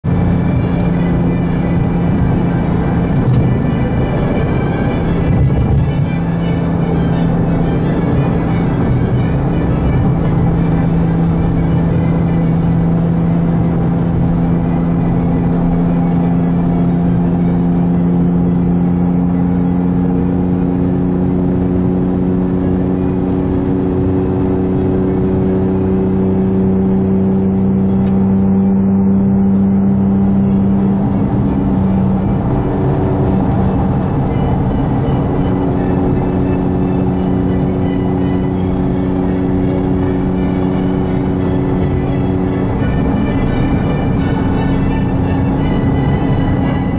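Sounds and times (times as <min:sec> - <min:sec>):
sports car engine droning: 0:00.0 - 0:46.9.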